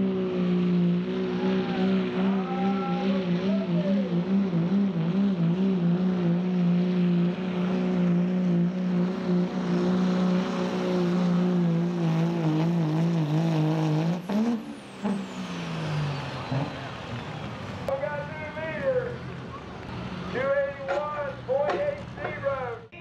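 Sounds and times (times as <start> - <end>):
diesel engine running at high revs: 0.0 - 23.0.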